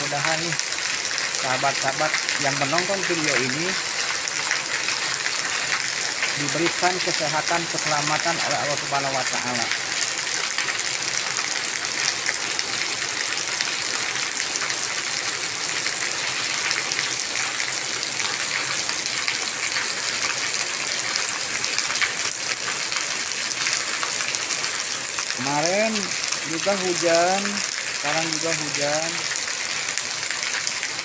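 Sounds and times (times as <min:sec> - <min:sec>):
heavy rain on pavement: 0:00.0 - 0:31.0
runoff water streaming: 0:00.0 - 0:31.0.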